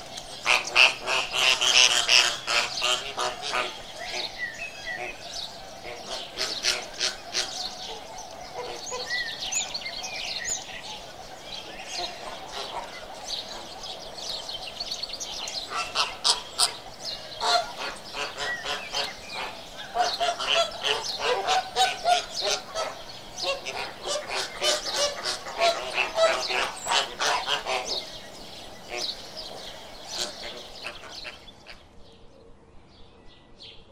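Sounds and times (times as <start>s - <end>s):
flamingos honking: 0.3s - 31.8s.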